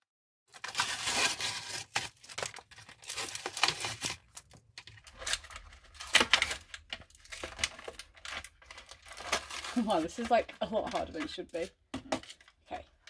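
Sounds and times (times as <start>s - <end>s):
packaging crinkling and tearing: 0.5s - 13.0s.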